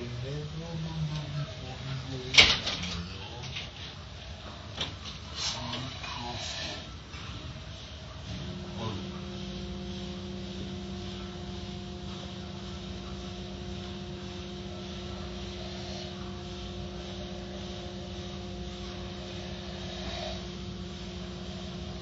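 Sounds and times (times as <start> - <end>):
car wash motor hum: 0.0 - 22.0.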